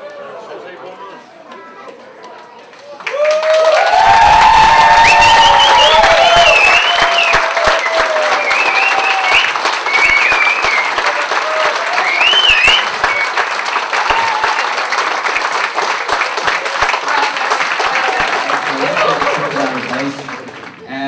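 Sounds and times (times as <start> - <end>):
crowd applauding: 1.5 - 21.0.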